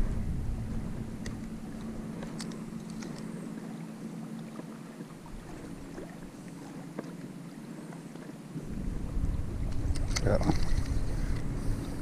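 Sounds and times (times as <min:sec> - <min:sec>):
light wind: 0:00.0 - 0:12.0
water lapping: 0:00.0 - 0:12.0.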